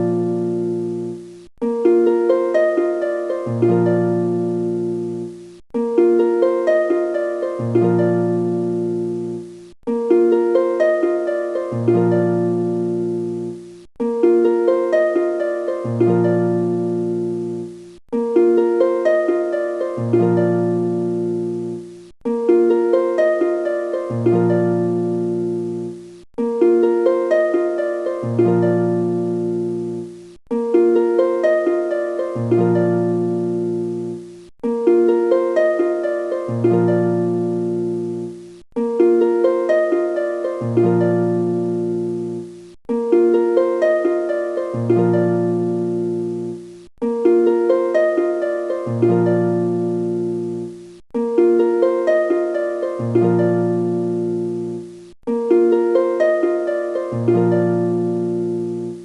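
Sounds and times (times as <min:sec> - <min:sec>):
plucked harp-like music: 0:00.0 - 0:59.0.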